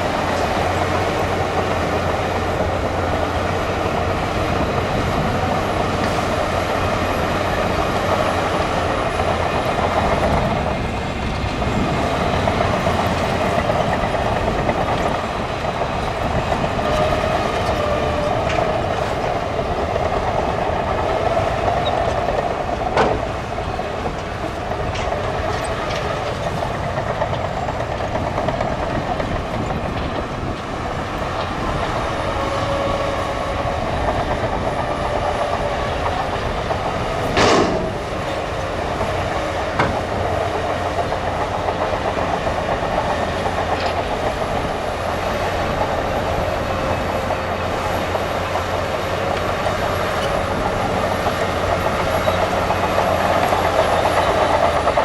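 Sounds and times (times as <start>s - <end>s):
bulldozer diesel engine whine: 0.0s - 55.0s
metal clanks of crawler tracks: 0.0s - 55.0s.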